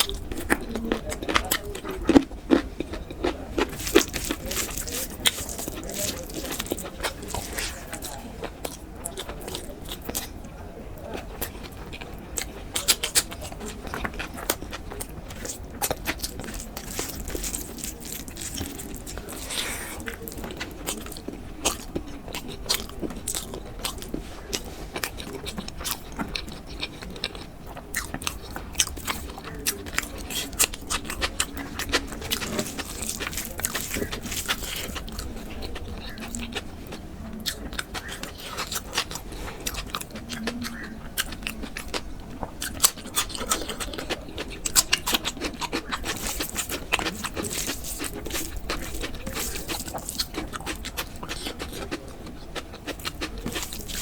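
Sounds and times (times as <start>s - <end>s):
person chewing and biting: 0.0s - 10.5s, 11.1s - 54.0s.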